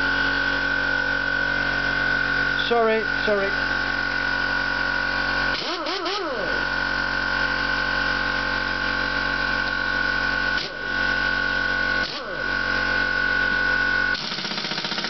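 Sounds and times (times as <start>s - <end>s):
air impact wrench whining: 0.0s - 15.0s.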